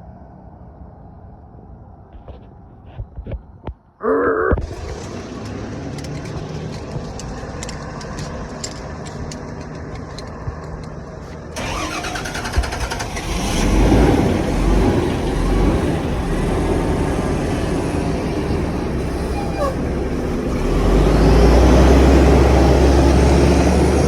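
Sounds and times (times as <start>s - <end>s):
deep engine rumble: 4.0s - 24.0s
bus engine misfiring: 4.6s - 24.0s.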